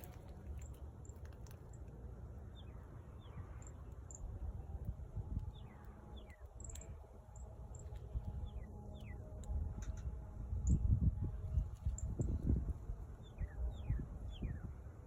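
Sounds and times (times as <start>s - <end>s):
birds chirping: 0.0s - 10.8s, 13.1s - 14.8s.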